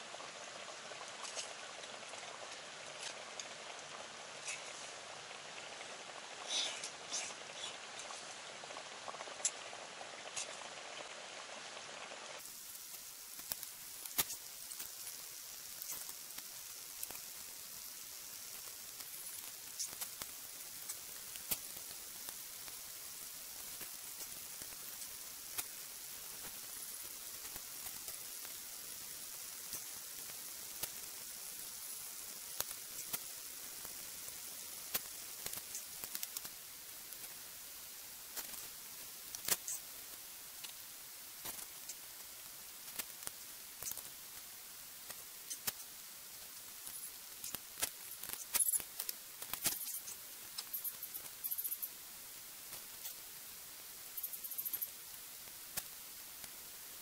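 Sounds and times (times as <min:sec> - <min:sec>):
pot simmering with faint hiss: 0:00.0 - 0:57.0.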